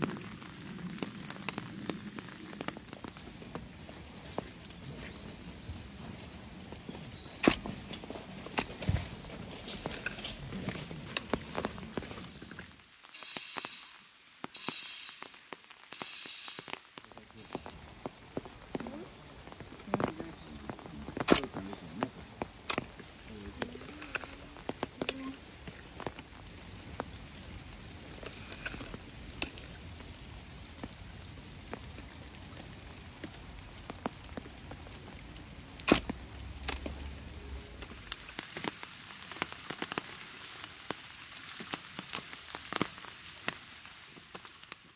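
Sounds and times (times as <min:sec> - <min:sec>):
rain on a pond: 0:00.0 - 0:44.9
rain pattering and dripping: 0:00.0 - 0:44.9.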